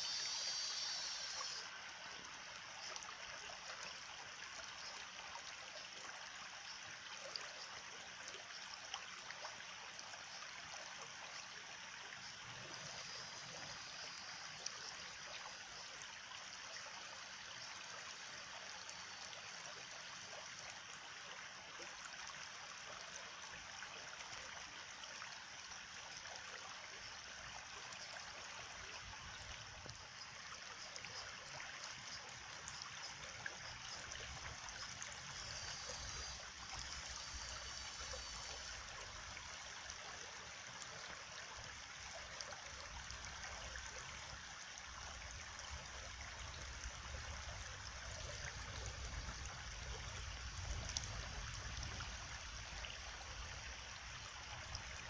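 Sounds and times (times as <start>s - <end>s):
small stream trickling: 0.0s - 55.0s.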